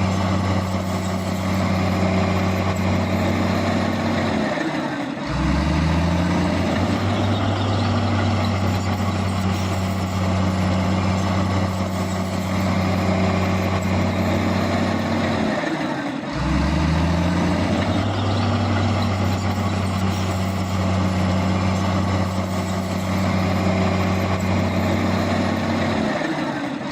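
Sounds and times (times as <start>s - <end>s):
heavy diesel engine under load: 0.0s - 26.9s.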